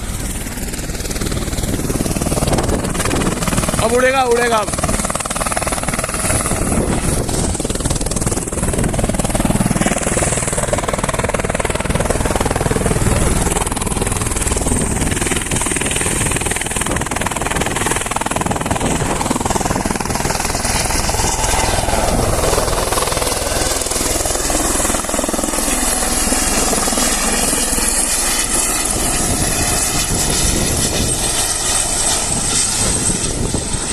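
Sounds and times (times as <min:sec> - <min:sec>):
helicopter engine and rotor: 0:00.0 - 0:33.9.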